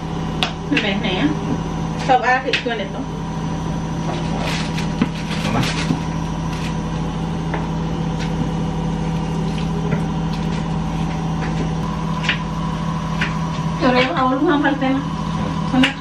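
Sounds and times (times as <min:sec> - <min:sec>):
appliance motor humming: 0:00.0 - 0:16.0.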